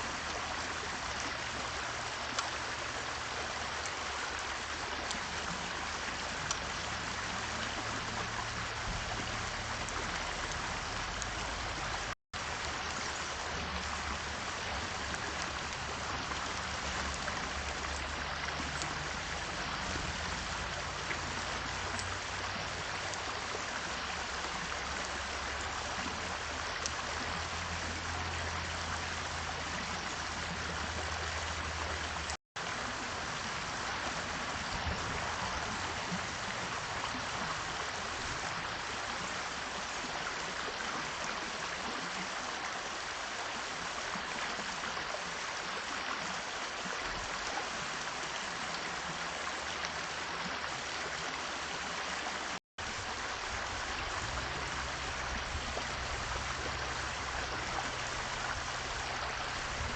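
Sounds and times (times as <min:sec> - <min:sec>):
rushing water-like noise: 0:00.0 - 0:59.9.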